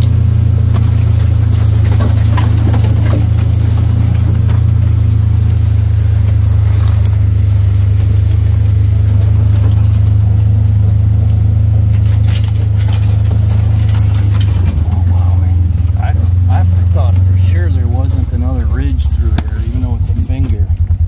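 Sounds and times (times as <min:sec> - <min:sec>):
rattles and scrapes: 0:00.0 - 0:21.0
vehicle engine droning: 0:00.0 - 0:21.0.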